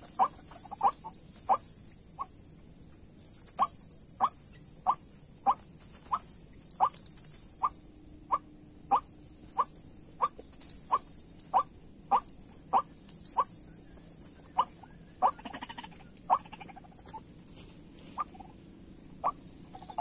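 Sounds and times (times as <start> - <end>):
buzzy rattling bird call: 0.0 - 2.4, 3.2 - 17.2.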